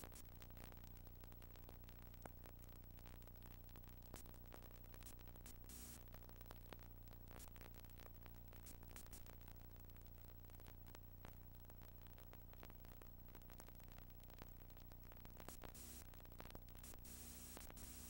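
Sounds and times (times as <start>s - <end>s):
faint clicks: 0.0s - 17.8s
faint hiss: 0.0s - 18.0s.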